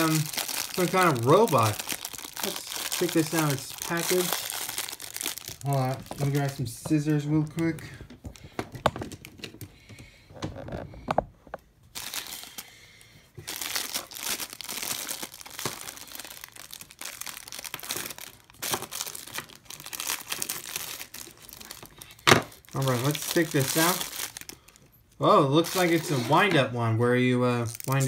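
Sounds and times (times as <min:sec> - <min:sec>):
plastic bag crinkling: 0:00.0 - 0:09.7, 0:11.9 - 0:12.7, 0:13.4 - 0:24.9, 0:25.6 - 0:26.5, 0:27.6 - 0:28.0.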